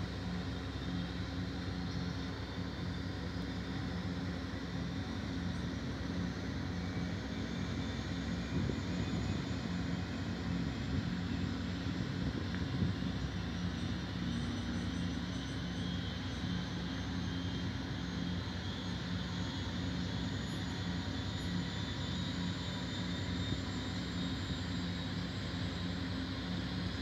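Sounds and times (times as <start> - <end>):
turbine engines idling: 0.0 - 27.0.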